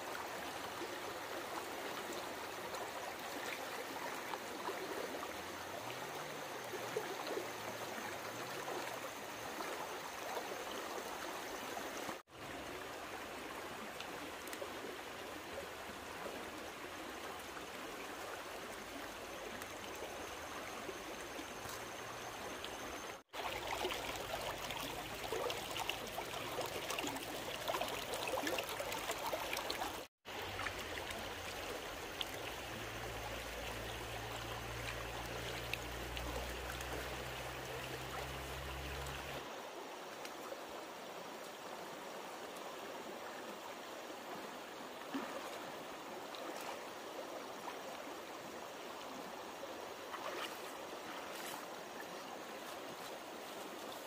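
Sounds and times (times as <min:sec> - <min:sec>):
stream of water rushing: 0:00.0 - 0:54.0.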